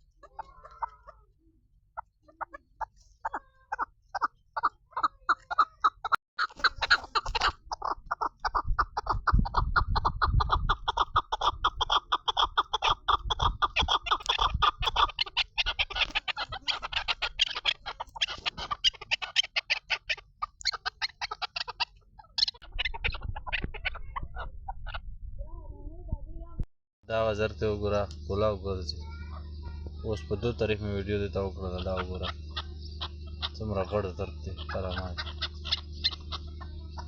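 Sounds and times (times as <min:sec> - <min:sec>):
partridge clucking call: 0:00.0 - 0:01.3, 0:02.0 - 0:25.0, 0:27.1 - 0:37.0.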